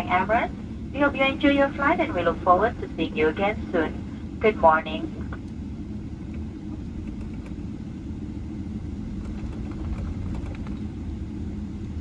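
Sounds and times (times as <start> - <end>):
airplane cabin rumble: 0.0 - 12.0
faint hum: 0.0 - 12.0.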